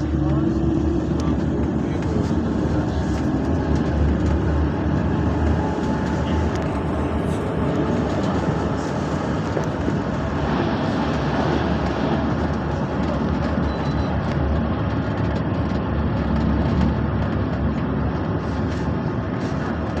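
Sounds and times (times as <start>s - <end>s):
tram rumbling inside car: 0.0s - 20.0s.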